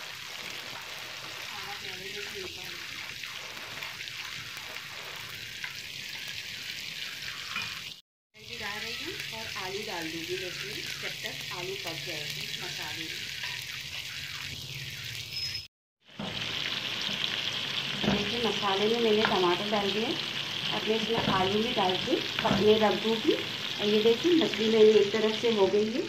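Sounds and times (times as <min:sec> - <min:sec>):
spices sizzling in oil: 0:00.0 - 0:26.0.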